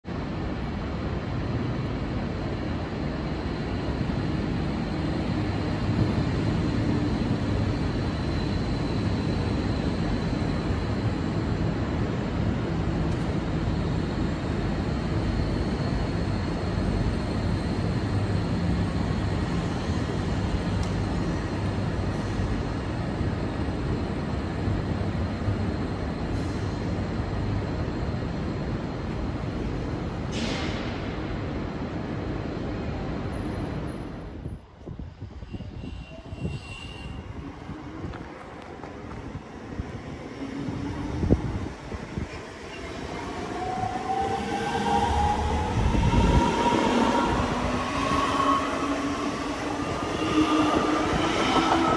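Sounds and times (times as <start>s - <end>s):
moving train rumble and hiss: 0.1s - 51.9s.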